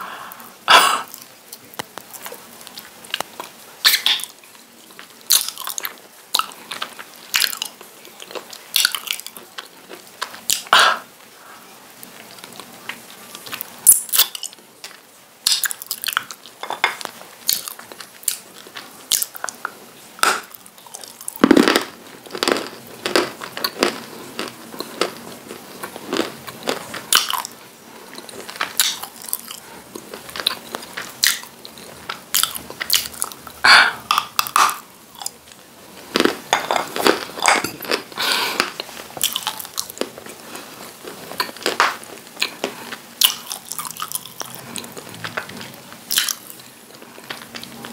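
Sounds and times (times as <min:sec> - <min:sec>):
crunchy chewing: 0:01.0 - 0:10.7, 0:12.1 - 0:47.9.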